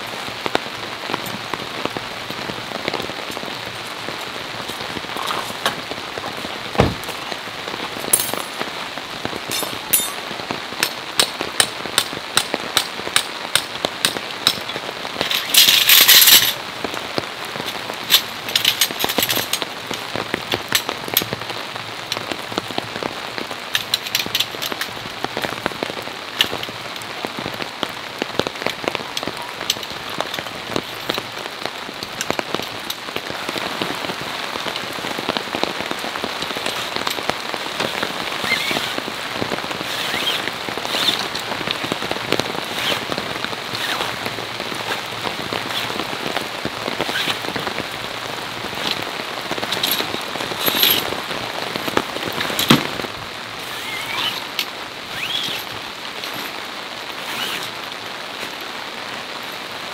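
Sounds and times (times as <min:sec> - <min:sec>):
raindrops tapping on a surface: 0:00.0 - 0:53.4
steady rain: 0:00.0 - 0:59.9.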